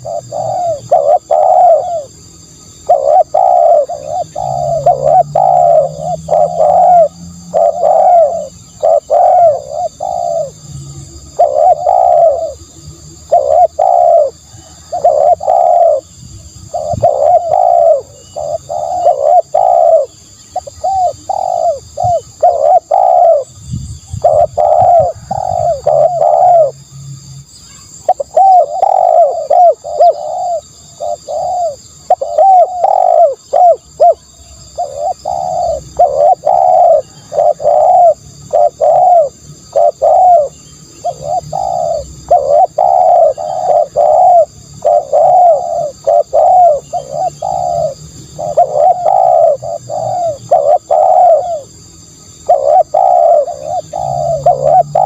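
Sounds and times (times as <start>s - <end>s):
dove cooing: 0.0s - 26.9s, 27.8s - 55.0s.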